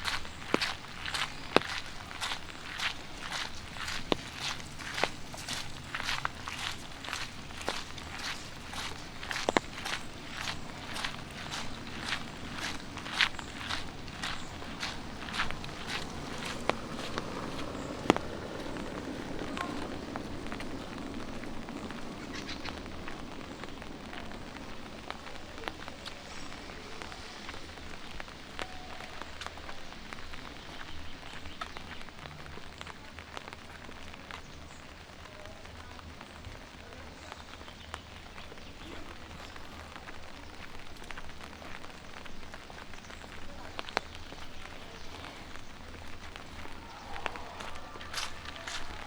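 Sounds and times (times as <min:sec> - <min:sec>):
light rain falling: 0:00.0 - 0:49.0.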